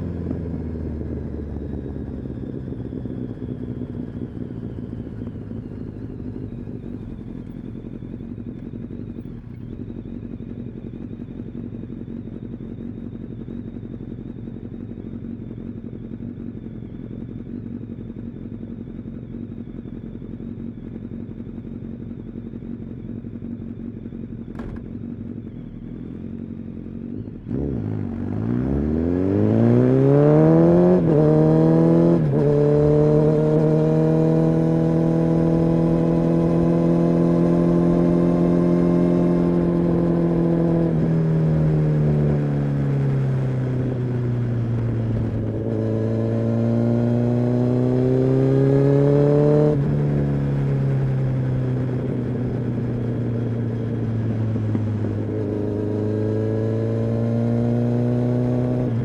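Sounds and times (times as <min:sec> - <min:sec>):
motorcycle engine and exhaust: 0:00.0 - 0:59.0.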